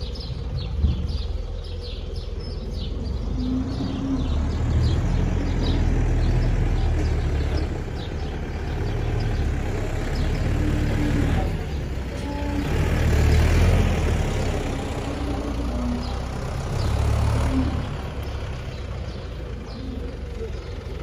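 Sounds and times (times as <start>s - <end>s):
low engine rumble: 0.0s - 21.0s
small birds chirping: 0.0s - 21.0s.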